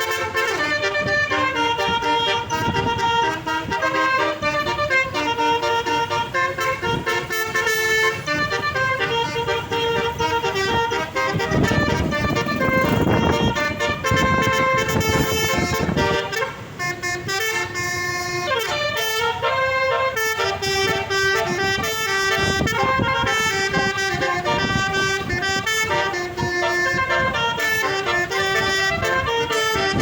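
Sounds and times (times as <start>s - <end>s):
musical air horn playing tune: 0.0s - 30.0s.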